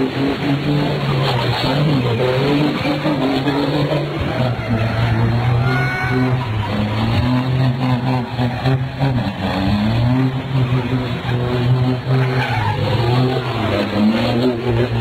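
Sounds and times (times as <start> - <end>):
truck engine at high revs: 0.0 - 15.0
tyres skidding on tarmac: 0.0 - 15.0.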